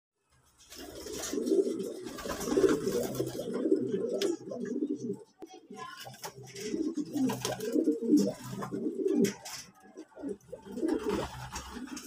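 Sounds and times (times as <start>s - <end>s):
pigeons cooing: 0.7s - 5.4s, 6.1s - 12.0s.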